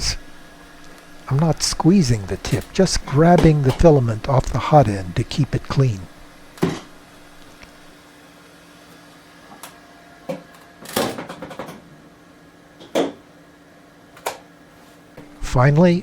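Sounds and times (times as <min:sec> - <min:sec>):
printer fans humming: 0:00.0 - 0:11.0, 0:12.2 - 0:16.0.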